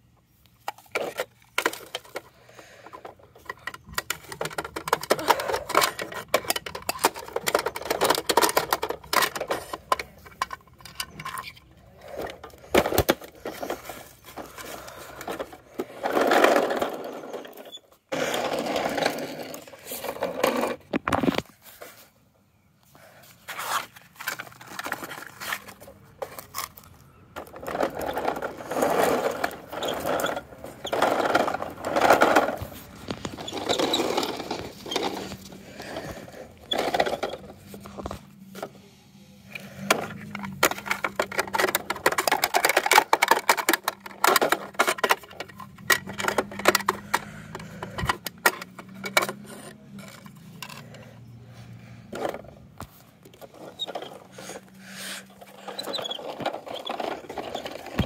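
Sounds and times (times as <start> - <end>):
plastic parts clattering: 0.4 - 22.1, 23.0 - 58.0
toy wheels rolling over pavement: 0.5 - 22.1, 22.9 - 58.0.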